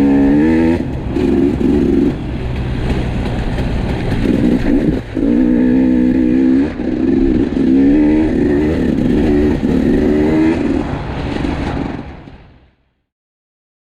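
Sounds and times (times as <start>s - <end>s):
two-stroke motorcycle engine revving: 0.0s - 12.1s.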